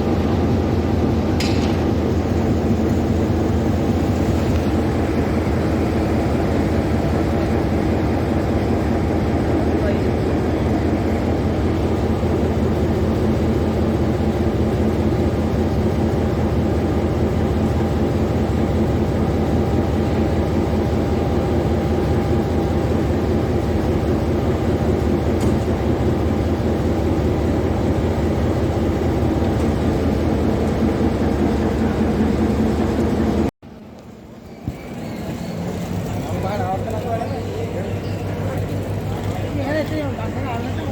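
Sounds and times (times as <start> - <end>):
locomotive engine running: 0.0 - 40.9.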